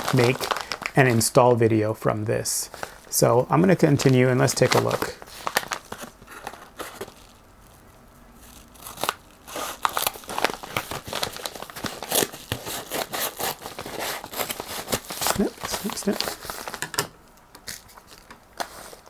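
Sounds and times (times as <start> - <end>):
plastic packaging crinkling and tearing: 0.0 - 1.4, 2.6 - 17.0, 17.6 - 19.0.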